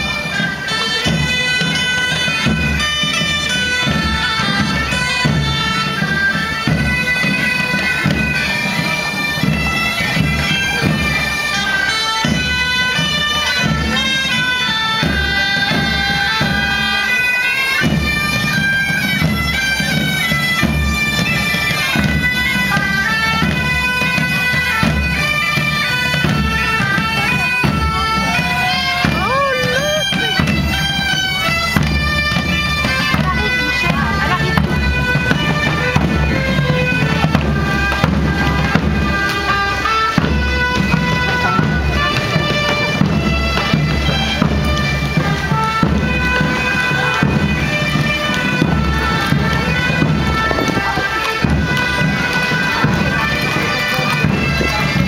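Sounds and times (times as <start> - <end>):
bagpipes playing a march: 0.0 - 55.0
marching drums beating: 0.0 - 55.0.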